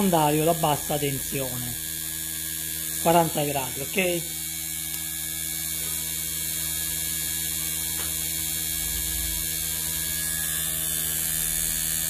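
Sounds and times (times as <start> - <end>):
compressor electrical hum: 0.0 - 12.0.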